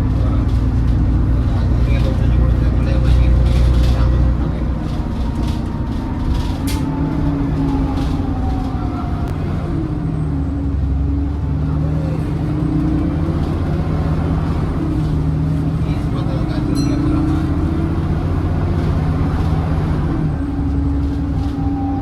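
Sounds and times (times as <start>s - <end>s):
bus engine whine: 0.0s - 22.0s.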